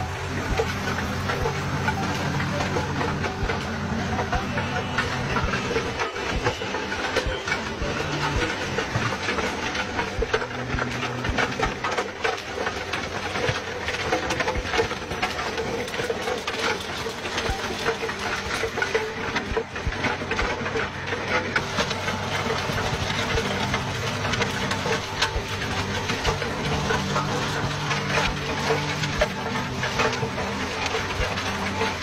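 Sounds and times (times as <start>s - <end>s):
stones clattering against rotor: 0.0s - 32.0s
tractor engine under load: 0.0s - 32.0s.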